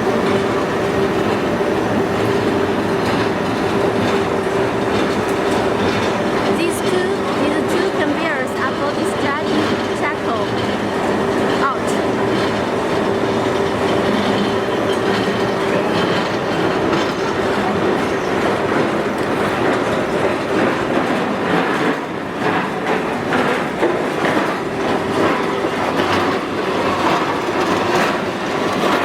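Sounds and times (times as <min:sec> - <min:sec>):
conveyors rattling and clattering: 0:00.0 - 0:29.0
steady mechanical hum: 0:00.0 - 0:29.0.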